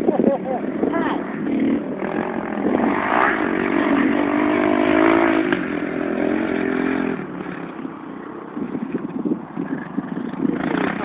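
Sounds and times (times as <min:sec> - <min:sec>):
dirt bike engine running hard: 0:00.0 - 0:11.0.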